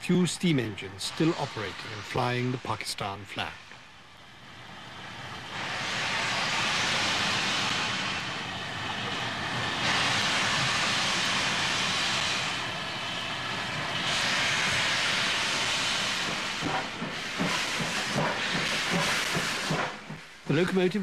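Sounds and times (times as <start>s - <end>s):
steam locomotive hissing steam: 0.0s - 21.0s.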